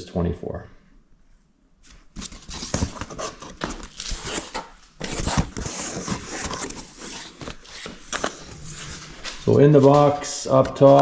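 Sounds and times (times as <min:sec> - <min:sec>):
cardboard packaging rustling: 0:01.9 - 0:11.0.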